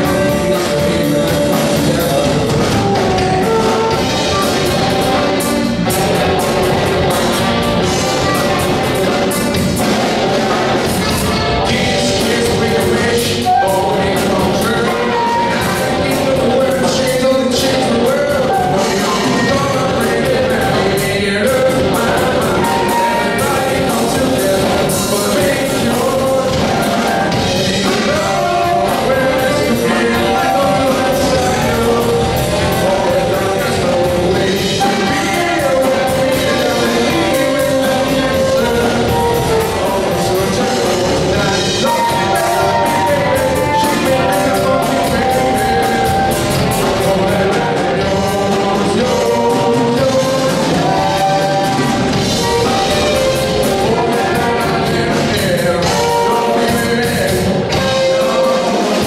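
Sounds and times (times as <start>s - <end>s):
backing vocals: 0.0s - 59.0s
lead singer singing: 0.0s - 59.0s
rock band playing: 0.0s - 59.0s
steady drum beat: 0.0s - 59.0s.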